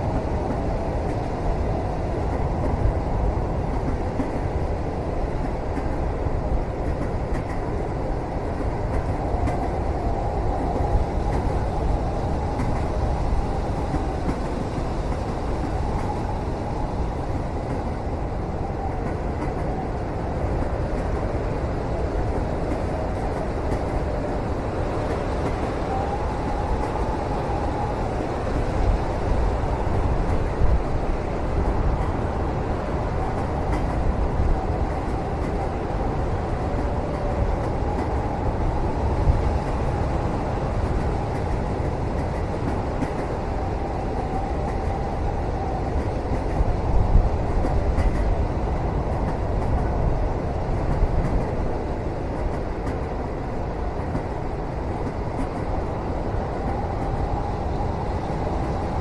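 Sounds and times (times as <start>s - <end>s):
train rumbling inside carriage: 0.0s - 59.0s.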